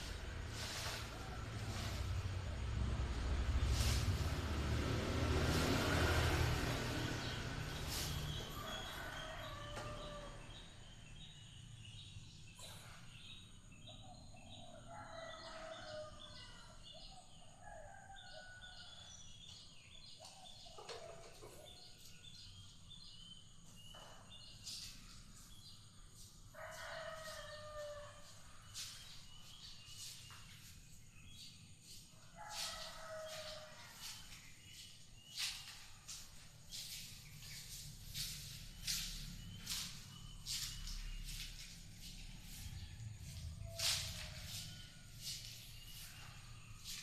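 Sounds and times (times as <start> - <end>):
small birds chirping: 5.5 - 47.0
faint rooster crowing: 6.5 - 11.6, 12.6 - 23.2, 23.8 - 30.5, 31.1 - 47.0.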